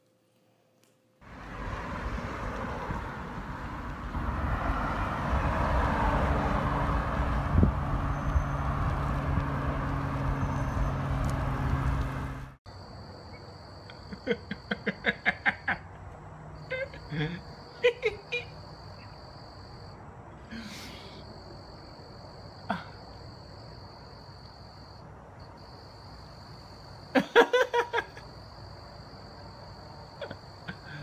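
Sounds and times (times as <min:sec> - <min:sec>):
road traffic engine hum: 0:01.2 - 0:31.0.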